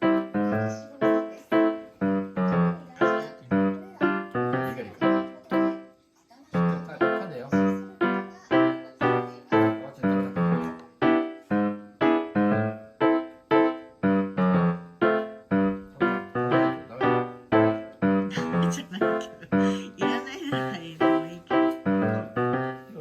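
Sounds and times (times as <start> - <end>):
bright piano melody: 0.0 - 23.0.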